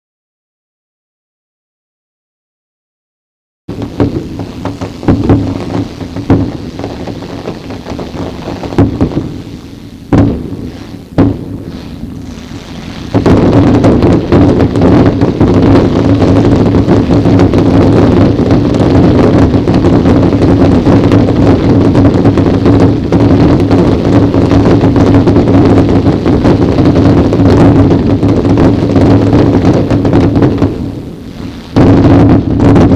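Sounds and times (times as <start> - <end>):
fireworks bangs and crackling: 3.7 - 32.9.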